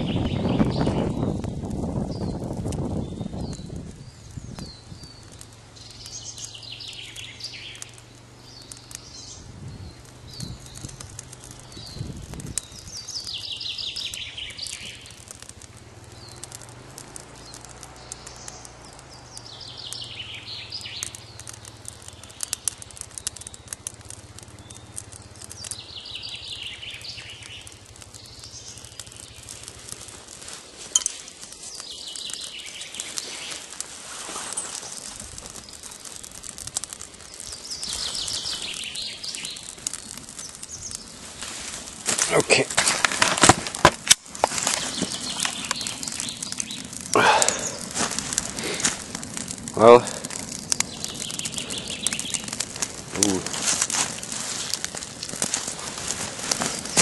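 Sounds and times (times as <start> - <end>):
songbird singing: 0.0 - 30.0, 30.9 - 33.9, 34.5 - 41.5, 44.4 - 57.0
twig fire crackling: 0.0 - 57.0
sharp snap of burning twig: 0.1 - 57.0.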